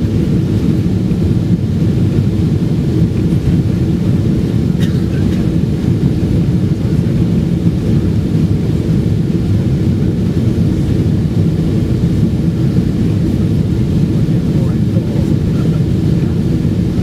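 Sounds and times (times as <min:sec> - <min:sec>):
jet engine rumble in cabin: 0:00.0 - 0:17.0
rushing air: 0:00.0 - 0:17.0.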